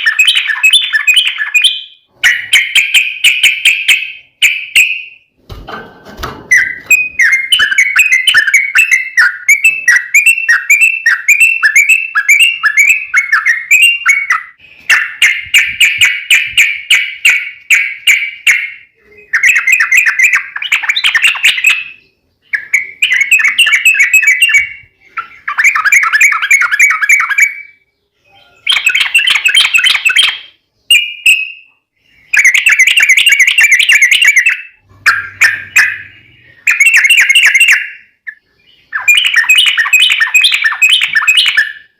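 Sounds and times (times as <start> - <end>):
bird singing rapid rolling phrases: 0.0 - 5.5, 6.4 - 41.9.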